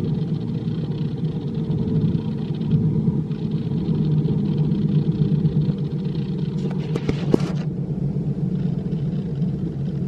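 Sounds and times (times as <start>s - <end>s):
light aircraft engine rumble: 0.0s - 10.0s.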